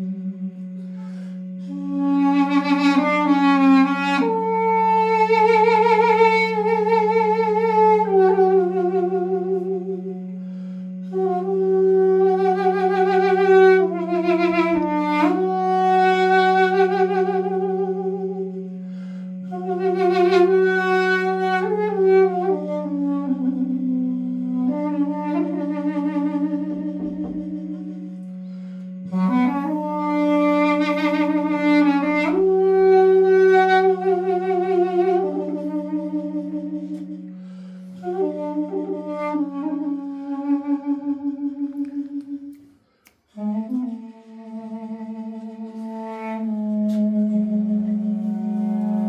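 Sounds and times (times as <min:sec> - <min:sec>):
steady low drone note: 0:00.0 - 0:42.6, 0:43.4 - 0:49.0
duduk playing slow melody: 0:00.0 - 0:49.0.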